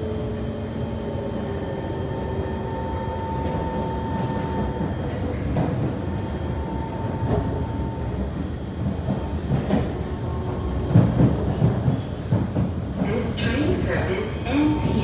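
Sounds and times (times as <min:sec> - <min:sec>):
train wheels rumbling: 0:02.9 - 0:15.0.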